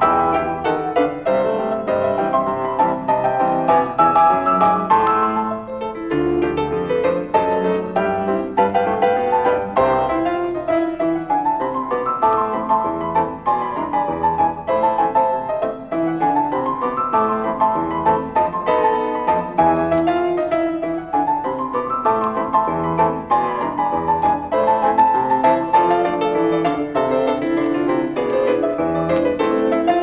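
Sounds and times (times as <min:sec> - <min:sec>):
silent film piano music: 0:00.0 - 0:30.0.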